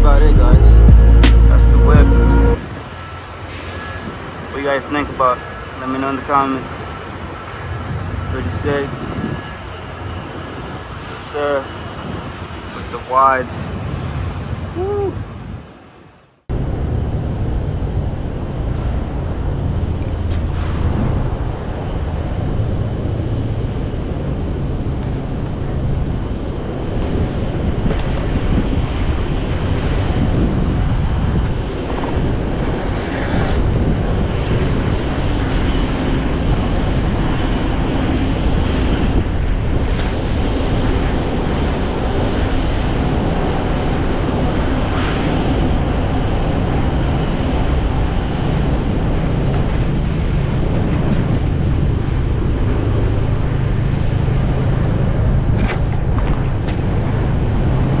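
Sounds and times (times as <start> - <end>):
passing traffic: 0.0 - 58.0
wind rushing over microphone: 0.0 - 58.0.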